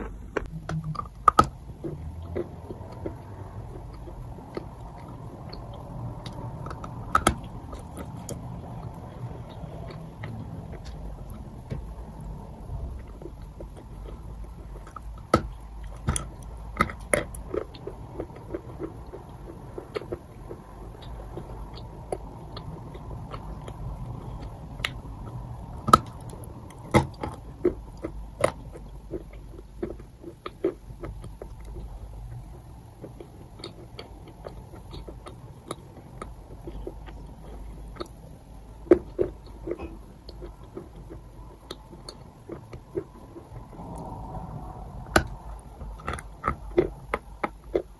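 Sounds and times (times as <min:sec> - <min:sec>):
chalk crunching while chewed: 0:00.0 - 0:47.9.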